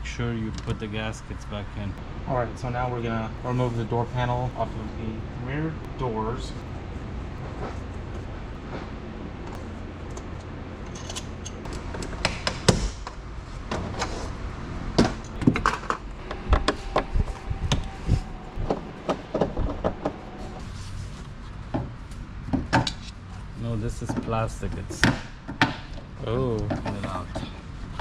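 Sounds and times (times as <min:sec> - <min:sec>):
steady low rumble: 0:00.0 - 0:22.4.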